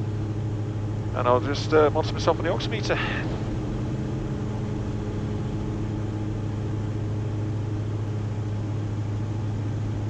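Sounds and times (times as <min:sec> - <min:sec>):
aircraft engines droning: 0:00.0 - 0:10.0.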